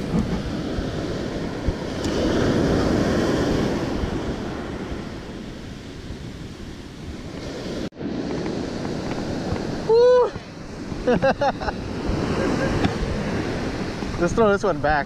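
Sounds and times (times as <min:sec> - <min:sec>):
ocean surf washing up beach: 0:00.0 - 0:15.0
wind buffeting microphone: 0:00.0 - 0:15.0.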